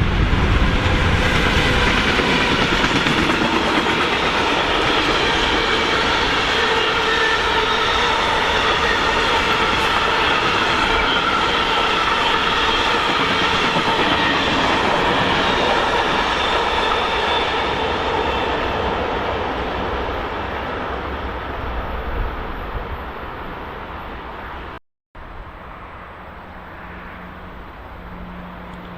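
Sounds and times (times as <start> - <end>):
train passing on track: 0.0 - 28.9.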